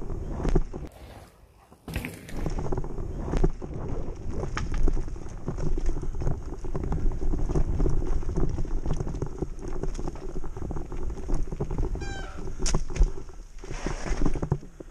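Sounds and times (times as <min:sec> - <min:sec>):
wind rumble on microphone: 0:00.0 - 0:00.9, 0:02.3 - 0:14.9
bike tyres rolling on dirt: 0:00.0 - 0:14.9
bike rattling over bumps: 0:01.8 - 0:14.9.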